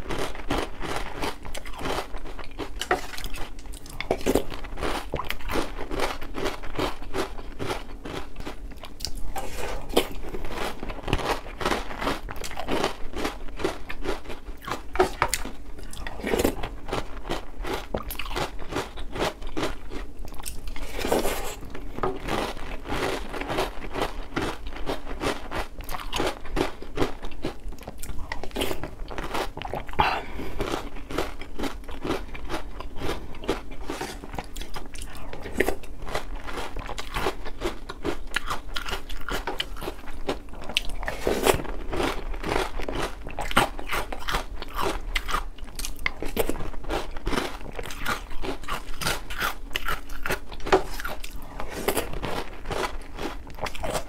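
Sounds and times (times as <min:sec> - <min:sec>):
cereal crunching while chewing: 0:00.0 - 0:54.0.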